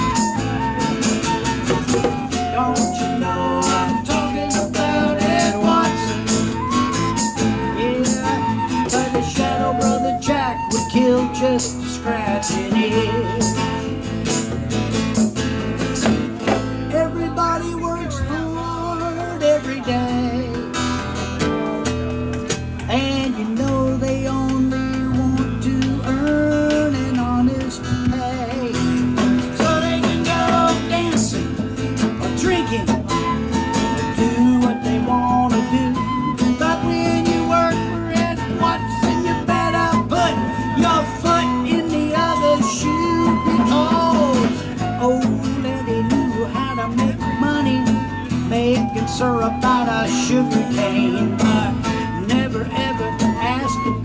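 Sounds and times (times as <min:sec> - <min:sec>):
hand drums: 0:00.0 - 0:17.0, 0:20.0 - 0:54.0
flute melody: 0:00.0 - 0:22.1, 0:23.0 - 0:54.0
bass guitar: 0:00.0 - 0:54.0
strummed acoustic guitar: 0:00.0 - 0:54.0.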